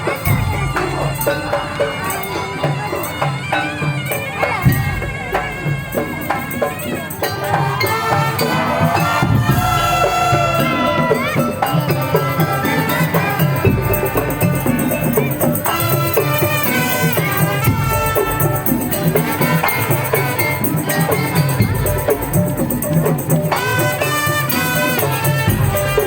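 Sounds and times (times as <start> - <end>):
traditional-style music: 0.0 - 26.0.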